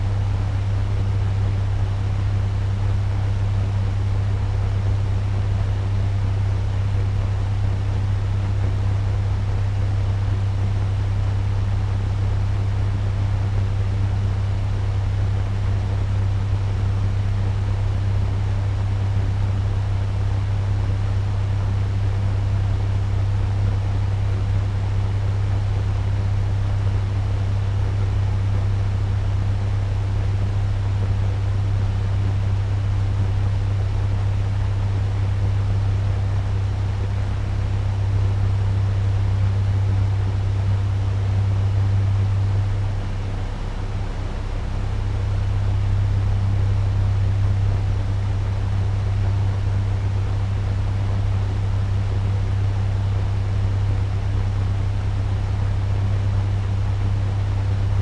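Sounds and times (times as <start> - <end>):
fan rushing air: 0.0 - 58.0
low motor hum: 0.0 - 58.0.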